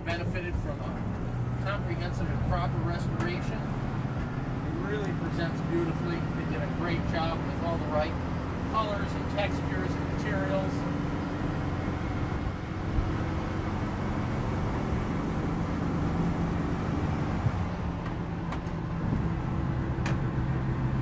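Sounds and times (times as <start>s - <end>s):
engine running steadily: 0.0s - 21.0s
road and tyre noise: 0.0s - 21.0s.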